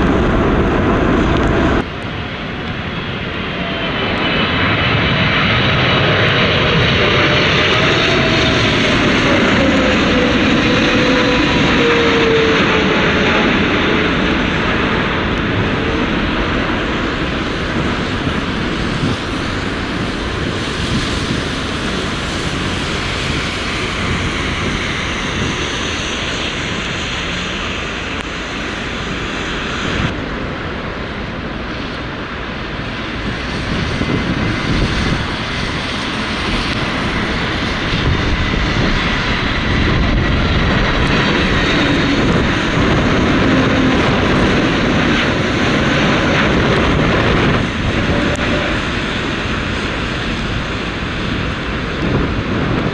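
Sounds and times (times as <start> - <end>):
jet engines passing: 0.0 - 52.9
wind buffeting microphone: 0.0 - 52.9.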